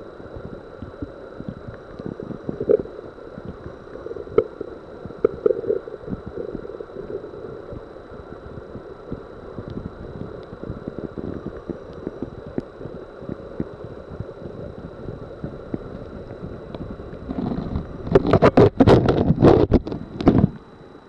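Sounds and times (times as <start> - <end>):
faint high whine: 0.0 - 21.0
underwater low rumble: 0.0 - 21.0.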